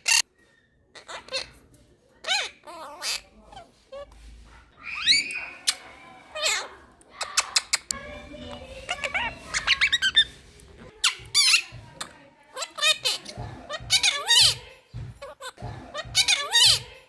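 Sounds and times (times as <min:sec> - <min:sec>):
parrot chirping and squawking: 0:00.0 - 0:00.3, 0:00.9 - 0:16.9.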